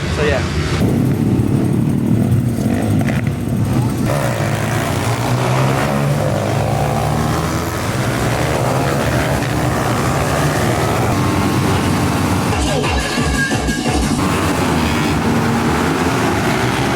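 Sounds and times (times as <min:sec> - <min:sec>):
broad rushing noise: 0:00.0 - 0:12.6, 0:14.1 - 0:16.9
motorbike engine running: 0:00.8 - 0:12.8, 0:14.2 - 0:16.9.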